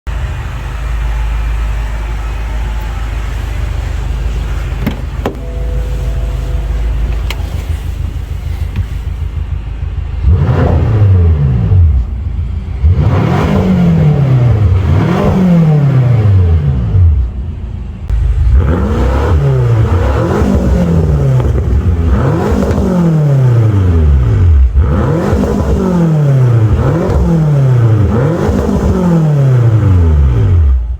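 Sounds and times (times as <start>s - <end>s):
car engine idling: 0.0s - 30.9s
engine throttle blips: 0.1s - 30.9s.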